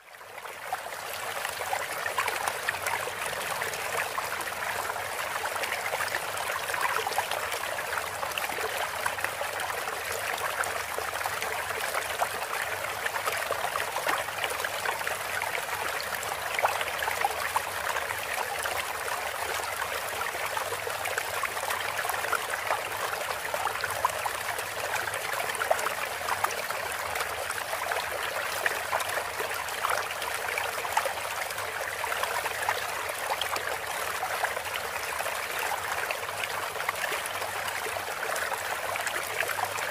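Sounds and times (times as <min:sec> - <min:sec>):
water trickling and splashing: 0:00.2 - 0:39.9.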